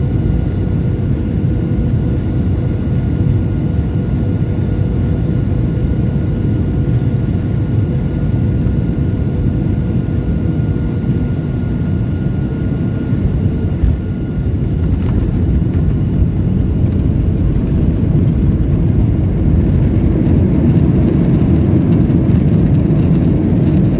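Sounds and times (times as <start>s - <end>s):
jet cabin engine rumble: 0.0s - 23.9s.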